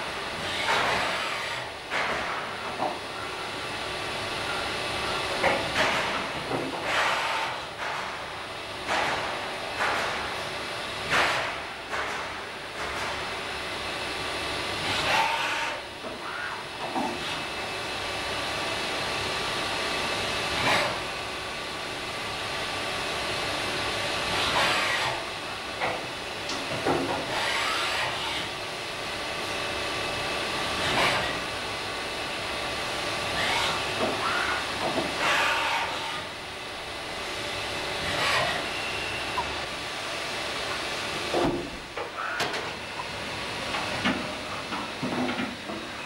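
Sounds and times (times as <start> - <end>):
machine spindles whirring: 0.0 - 46.0.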